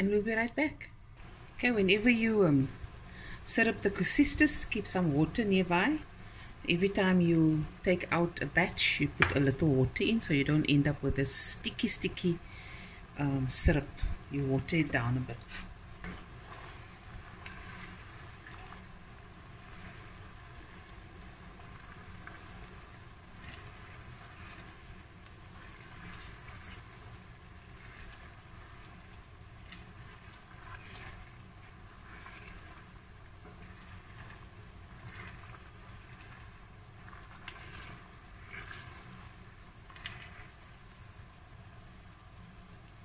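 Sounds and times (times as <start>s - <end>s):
syrup boiling in a pan: 0.2s - 43.0s.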